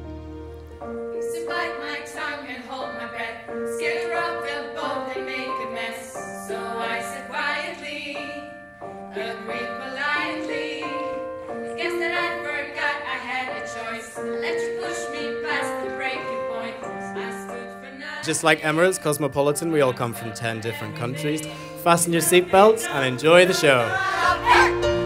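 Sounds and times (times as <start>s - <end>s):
choir singing in harmony: 0.0s - 25.0s.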